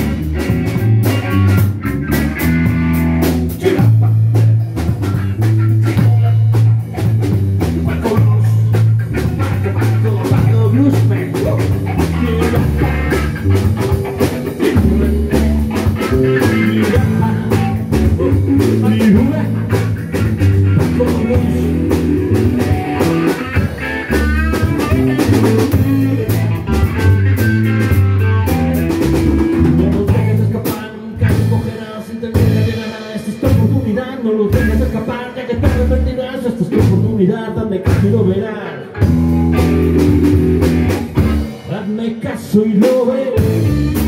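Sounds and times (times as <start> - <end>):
blues band playing: 0.0 - 44.0.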